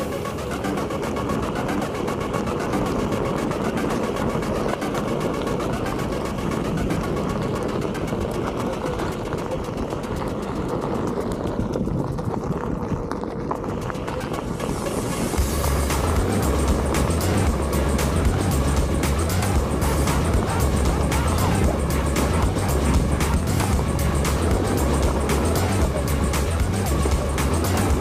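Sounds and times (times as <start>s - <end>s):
electric board rumbling over dirt: 0.0s - 28.0s.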